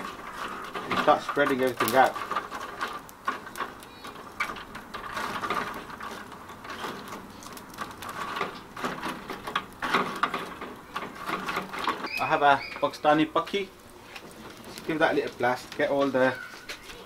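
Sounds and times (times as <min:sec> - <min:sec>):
charcoal lumps clinking: 0:00.0 - 0:17.0
metal tongs scraping charcoal: 0:00.0 - 0:17.0.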